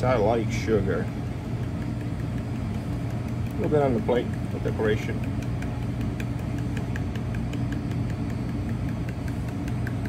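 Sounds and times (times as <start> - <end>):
low mechanical hum: 0.0 - 10.0
metal shaker ticking: 0.0 - 10.0.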